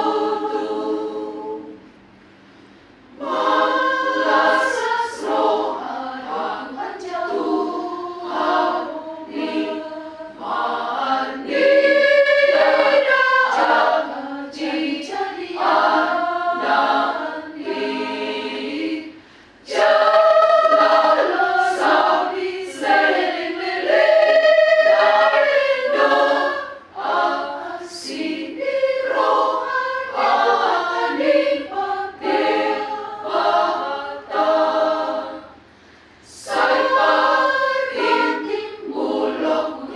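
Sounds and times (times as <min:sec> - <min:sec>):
choir singing: 0:00.0 - 0:01.9, 0:03.1 - 0:39.9.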